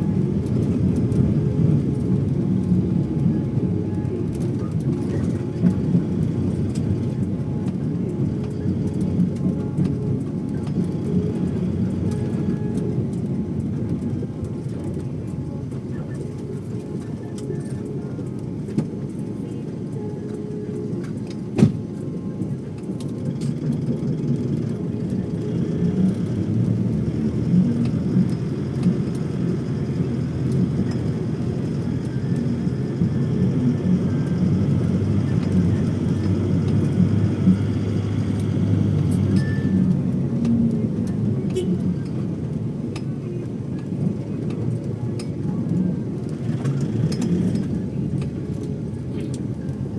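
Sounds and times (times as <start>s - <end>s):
moving vehicle rumble: 0.0s - 49.9s.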